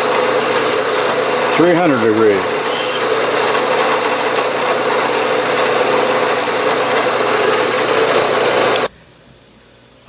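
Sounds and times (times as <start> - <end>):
drill bit cutting metal: 0.0 - 8.9
milling machine spindle humming: 0.0 - 8.9.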